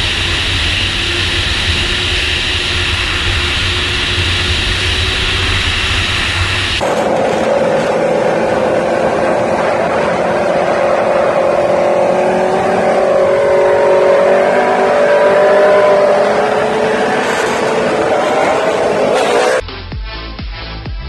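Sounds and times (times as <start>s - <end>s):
motorcycle engine running: 0.0s - 19.6s
wind noise: 0.0s - 19.6s.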